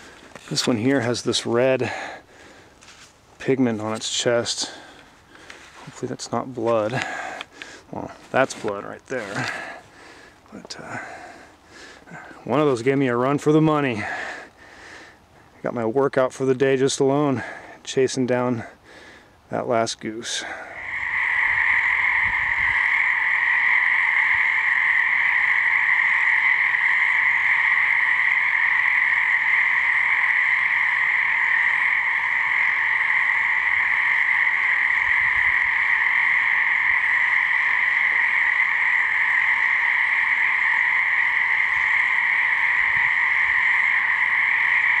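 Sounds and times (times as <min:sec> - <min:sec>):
chorus of frogs calling: 0:00.0 - 0:45.0.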